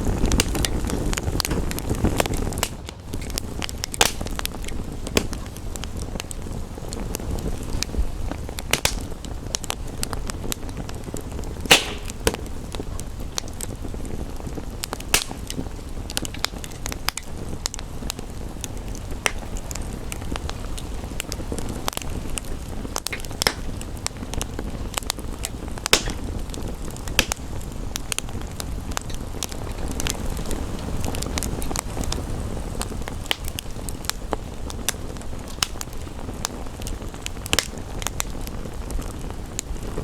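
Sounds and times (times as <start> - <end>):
rain rushing: 0.0 - 40.0
wood fire crackling: 0.0 - 40.0.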